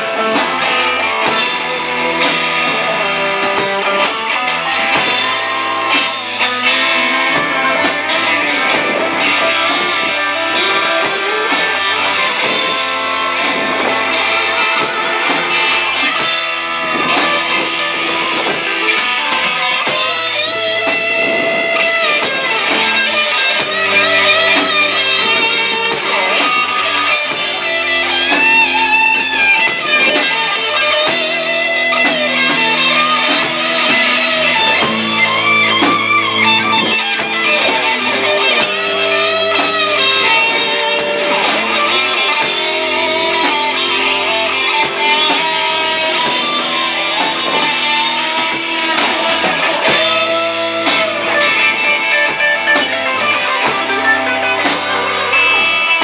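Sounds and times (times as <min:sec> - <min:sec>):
bass guitar: 0:00.0 - 0:56.0
drum kit with cymbals: 0:00.0 - 0:56.0
electric guitar lead: 0:00.0 - 0:56.0.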